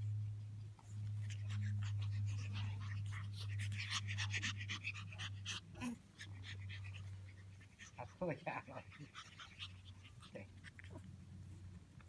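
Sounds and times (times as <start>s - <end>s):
puppies panting: 0.0s - 12.0s
steady low hum: 0.0s - 12.0s.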